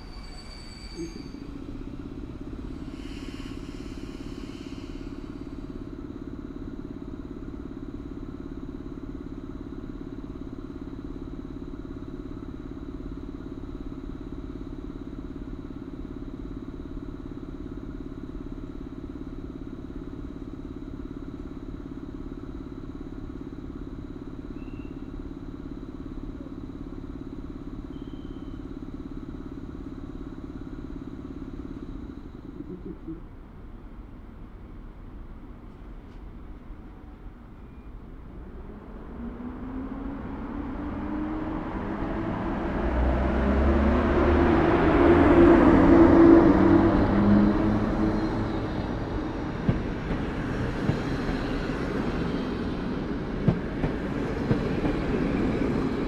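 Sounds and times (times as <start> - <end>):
locomotive machinery hum: 0.0 - 56.0.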